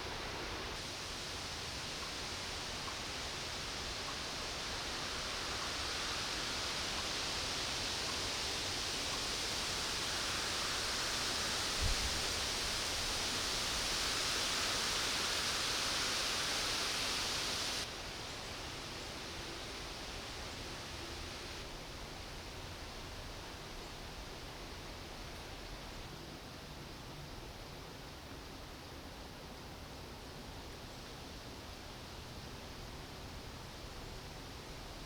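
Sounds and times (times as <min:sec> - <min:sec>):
outdoor ambient hiss: 0:00.0 - 0:35.0.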